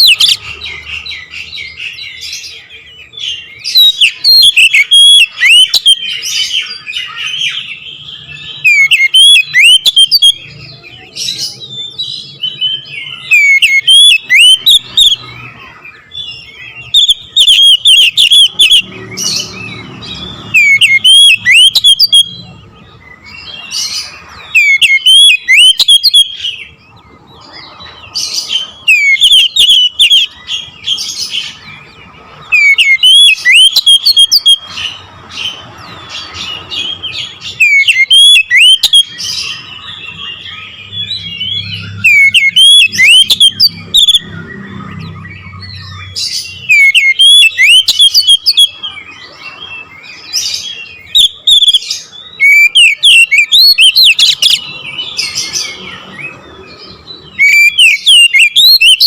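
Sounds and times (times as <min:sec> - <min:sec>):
bird twittering: 0:00.0 - 0:59.0
bird whistling song: 0:00.0 - 0:59.0.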